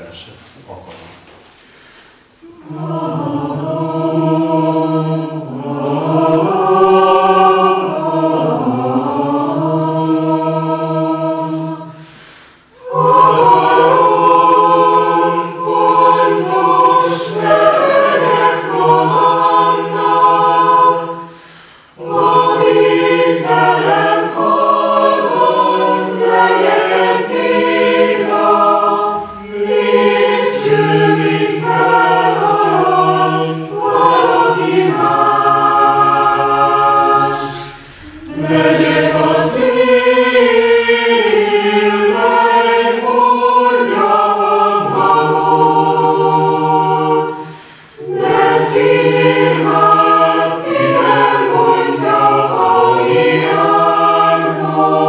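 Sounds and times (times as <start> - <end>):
choir singing: 2.3 - 55.0.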